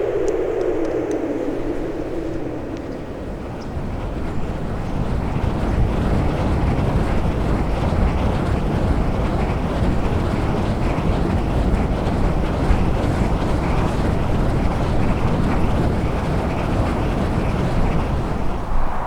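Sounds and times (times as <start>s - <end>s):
wind blowing: 0.0s - 19.0s.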